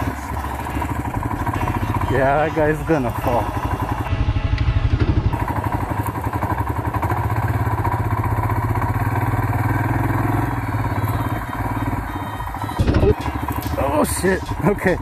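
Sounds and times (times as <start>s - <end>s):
motorcycle engine thumping: 0.0s - 15.0s.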